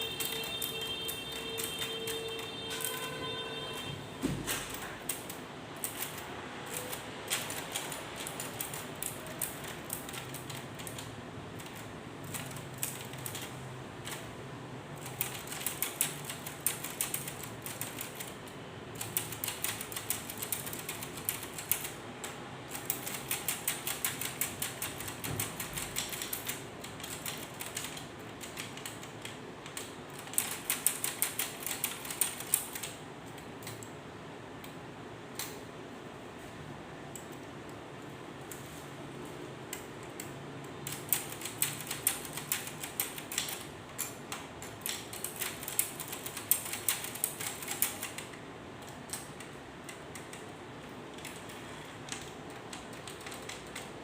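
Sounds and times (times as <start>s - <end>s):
manual typewriter clacking: 0.0s - 33.9s, 39.7s - 54.0s.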